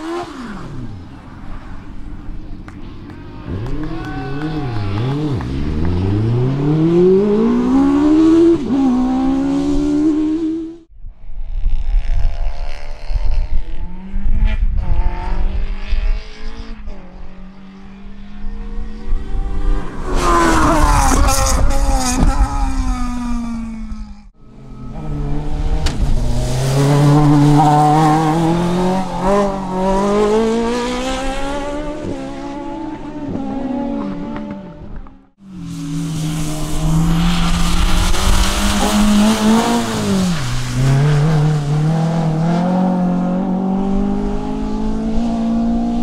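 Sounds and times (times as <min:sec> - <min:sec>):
racing car engines revving: 0:00.0 - 0:10.9, 0:11.9 - 0:46.0.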